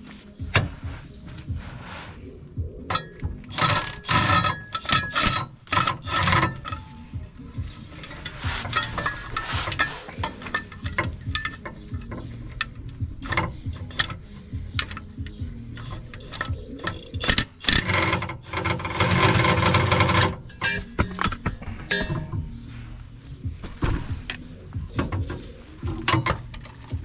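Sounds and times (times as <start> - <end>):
hand tools clicking and rattling: 2.8 - 22.6, 23.7 - 27.0.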